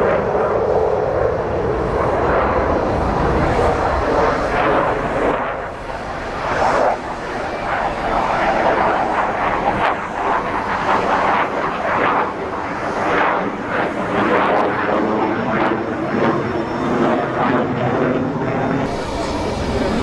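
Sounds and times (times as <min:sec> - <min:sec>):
aircraft flying past: 0:00.0 - 0:20.0.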